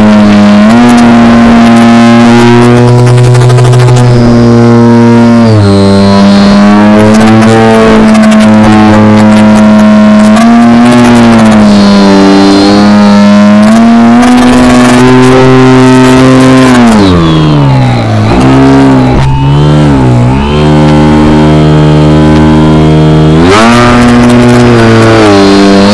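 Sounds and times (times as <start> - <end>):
model plane motor and propeller: 0.0 - 25.9.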